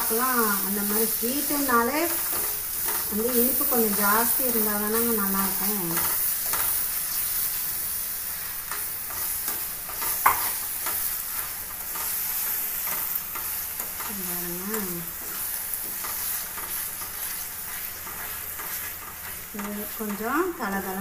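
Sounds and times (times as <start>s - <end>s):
food sizzling in a frying pan: 0.0s - 21.0s
spatula scraping a pan: 0.3s - 21.0s.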